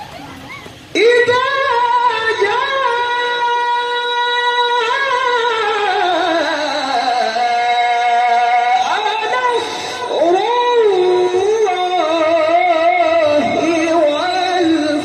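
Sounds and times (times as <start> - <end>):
man reciting melodically: 0.9 - 15.0.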